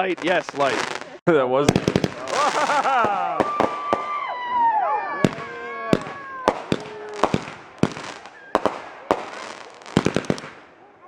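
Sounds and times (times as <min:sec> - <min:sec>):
fireworks banging: 0:00.0 - 0:04.3, 0:05.2 - 0:10.8
whistling firework: 0:00.2 - 0:10.7.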